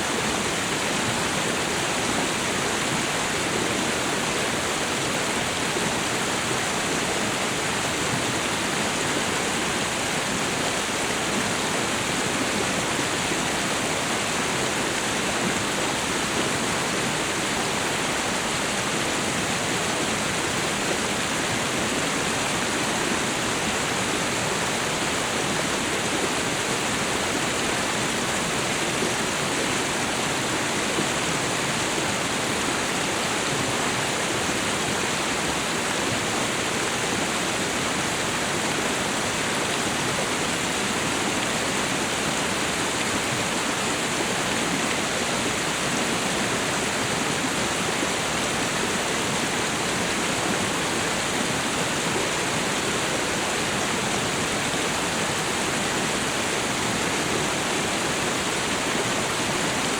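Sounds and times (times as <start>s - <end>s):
waterfall and river rushing: 0.0s - 59.9s.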